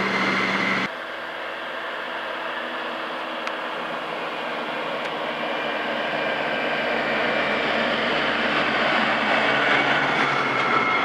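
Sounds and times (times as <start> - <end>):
high whine: 0.0 - 11.0
tractor diesel engine: 0.0 - 11.0.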